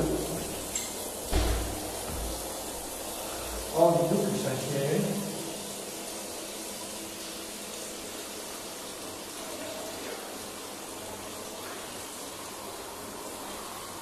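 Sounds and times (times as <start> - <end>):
tap water running into basin: 0.0 - 14.0.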